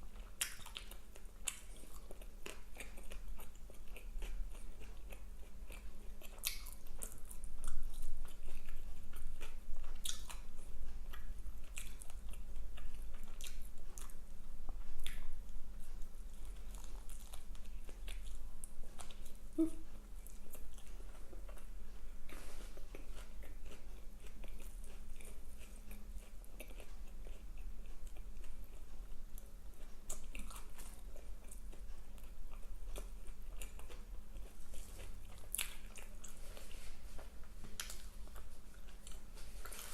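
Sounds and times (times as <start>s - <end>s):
chewing and biting food: 0.0s - 15.3s, 16.3s - 39.9s.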